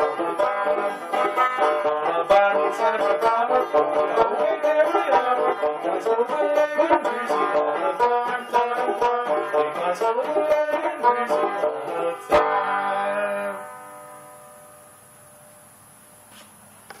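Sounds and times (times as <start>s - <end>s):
banjo plucked notes and chord: 0.0s - 15.0s.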